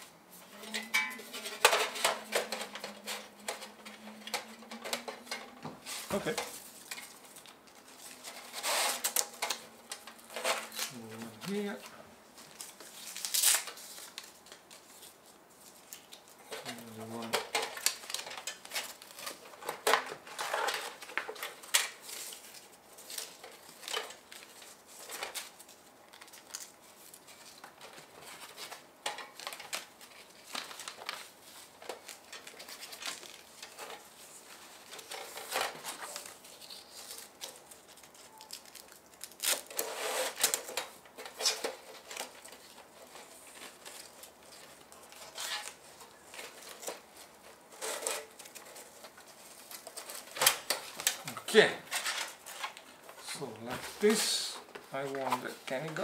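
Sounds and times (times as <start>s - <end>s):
rustling packaging: 0.0s - 56.0s.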